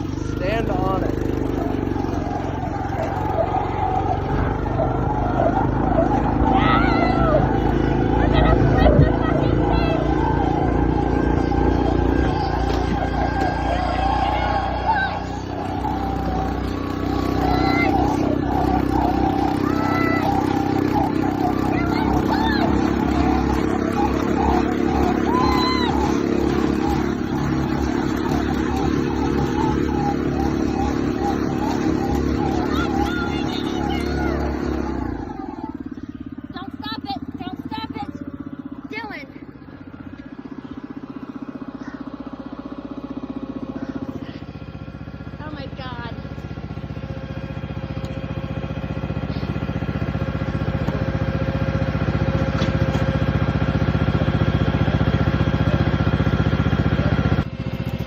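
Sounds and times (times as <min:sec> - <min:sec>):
engine running under load: 0:00.0 - 0:58.0.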